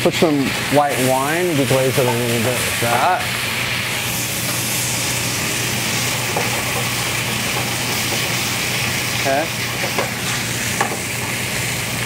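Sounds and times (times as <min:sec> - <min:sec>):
vegetables sizzling in pan: 0:00.0 - 0:12.0
tongs stirring in pan: 0:00.4 - 0:12.0.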